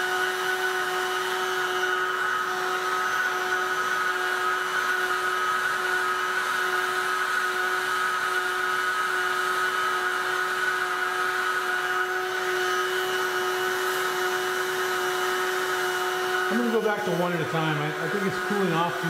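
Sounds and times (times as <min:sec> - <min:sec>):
hot-air gun blowing: 0:00.0 - 0:19.0.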